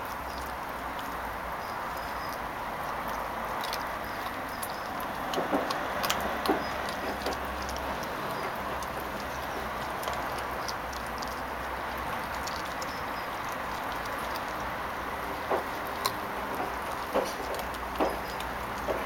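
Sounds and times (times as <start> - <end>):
puppy chewing bone crunches: 0.0 - 19.0.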